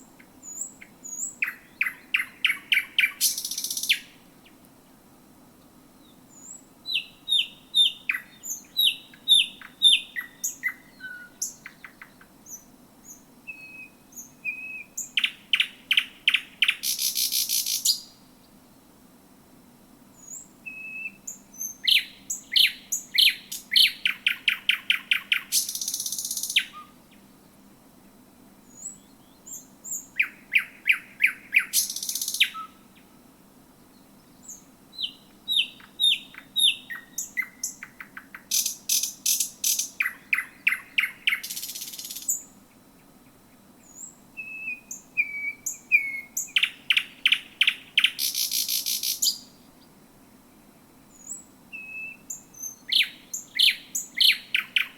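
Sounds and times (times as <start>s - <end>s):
nightingale singing: 0.0s - 4.6s, 5.9s - 18.6s, 20.2s - 27.3s, 28.6s - 33.1s, 33.8s - 50.0s, 51.0s - 54.9s.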